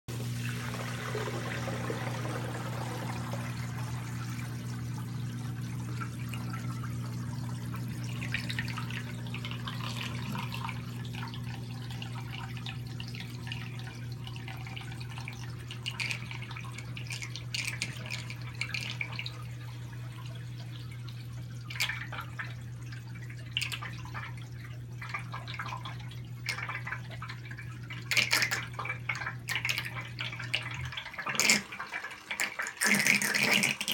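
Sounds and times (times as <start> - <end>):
drain pump humming: 0.1 - 33.9
water splashing into sink: 0.1 - 33.9.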